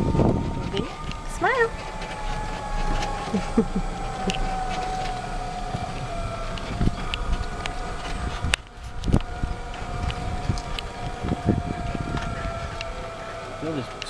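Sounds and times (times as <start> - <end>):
golf cart motor whine: 0.0 - 14.0
low rumble of ride: 0.0 - 14.0.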